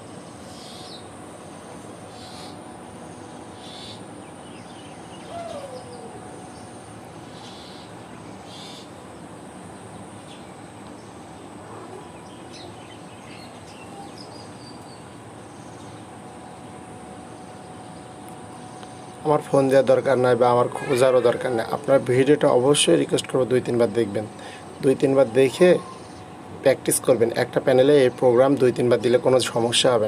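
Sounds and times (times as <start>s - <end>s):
faint high steady whine: 0.0s - 30.0s.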